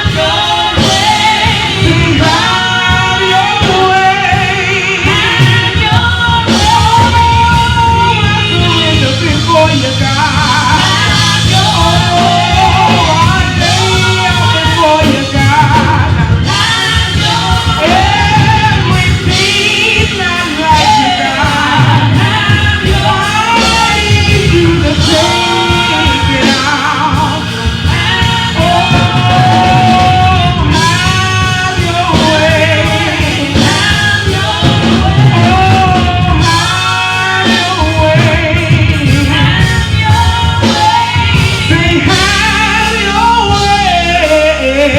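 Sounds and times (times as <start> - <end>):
congregation singing with band: 0.0 - 44.9.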